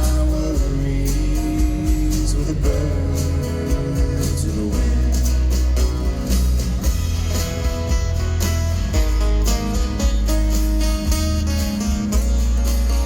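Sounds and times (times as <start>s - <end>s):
acoustic guitar: 0.0s - 13.0s
deep bass line: 0.0s - 13.0s.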